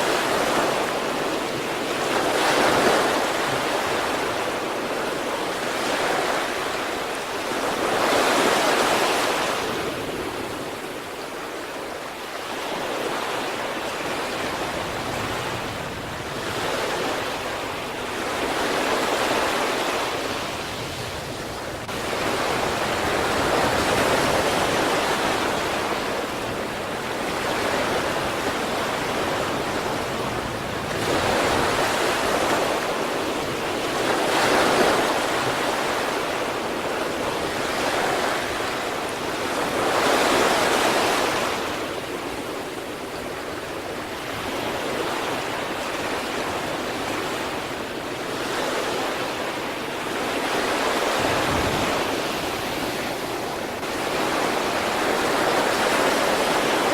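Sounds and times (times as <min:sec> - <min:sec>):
sea waves washing ashore: 0:00.0 - 0:56.9.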